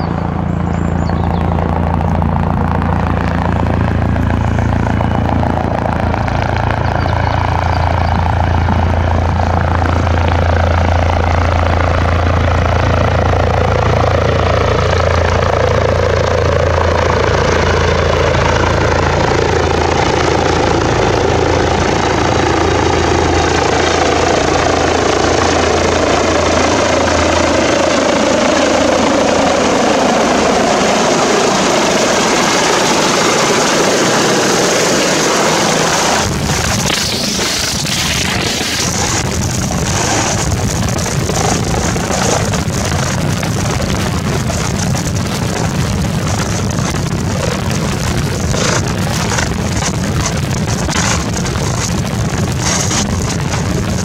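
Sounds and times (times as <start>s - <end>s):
helicopter rotor and turbine: 0.0s - 54.0s.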